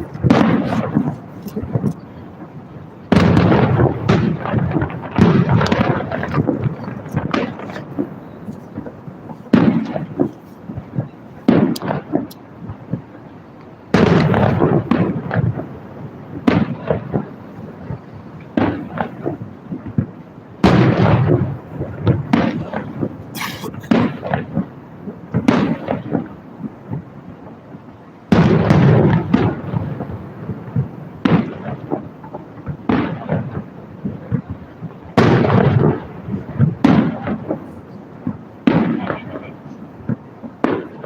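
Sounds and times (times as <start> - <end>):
fireworks booming: 0.0 - 41.0
fireworks crackles: 0.0 - 41.0.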